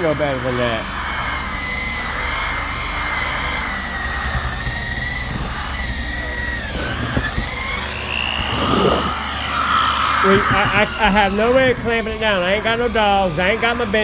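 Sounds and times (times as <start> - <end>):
orbital sander on wood: 0.0 - 14.0.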